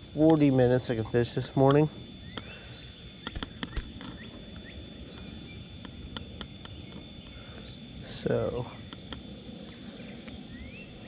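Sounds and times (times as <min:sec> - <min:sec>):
small birds chirping: 0:00.0 - 0:11.0
steady high-pitched whine: 0:00.0 - 0:11.0.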